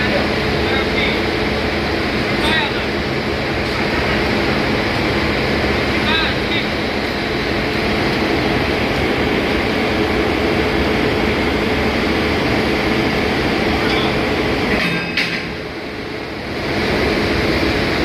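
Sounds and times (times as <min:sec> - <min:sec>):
engine room machinery roar: 0:00.0 - 0:18.0.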